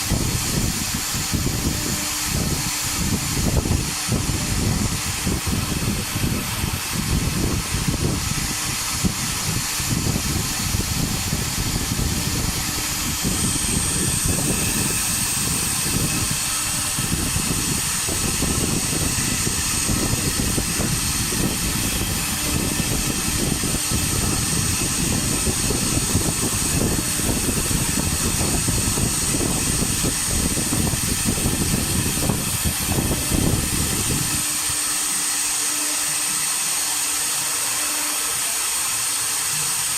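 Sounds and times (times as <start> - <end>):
cnc router carving: 0.0 - 39.9
high spindle whine: 0.0 - 39.9.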